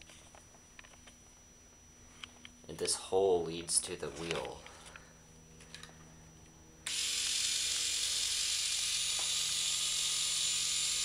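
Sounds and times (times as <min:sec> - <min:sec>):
ball machine mechanical whir: 0:02.2 - 0:11.0.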